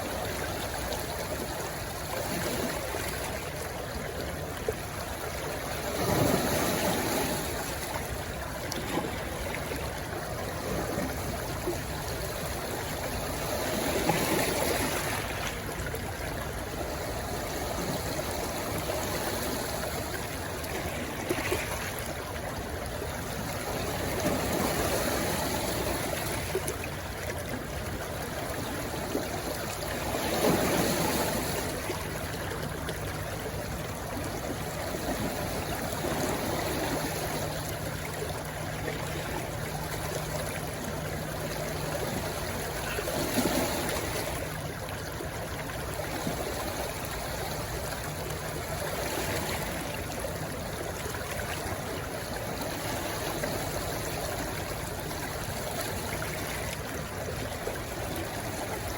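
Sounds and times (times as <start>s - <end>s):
stream water rushing into sea: 0.0s - 58.9s.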